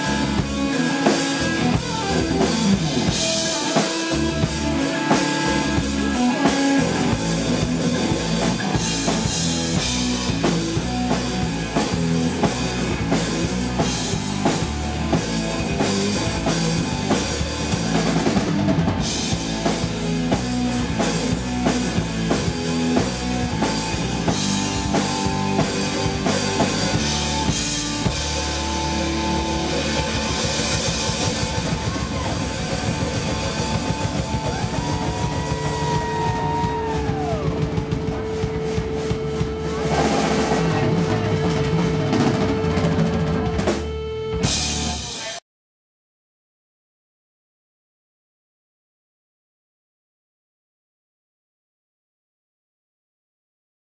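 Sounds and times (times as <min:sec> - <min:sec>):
electric guitar: 0:00.0 - 0:45.4
rock band playing: 0:00.0 - 0:45.4.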